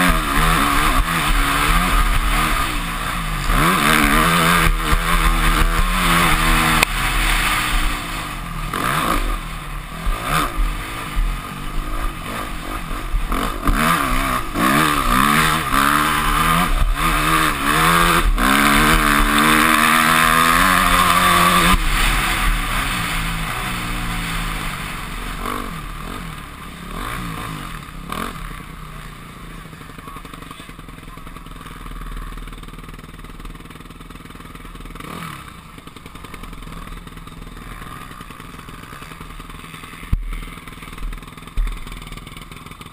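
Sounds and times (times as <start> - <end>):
motocross engine revving: 0.0 - 42.9.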